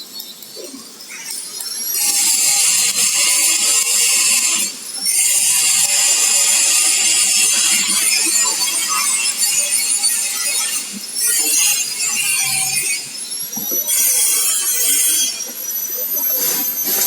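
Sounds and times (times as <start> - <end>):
arc welding crackling hiss: 0.2 - 17.0.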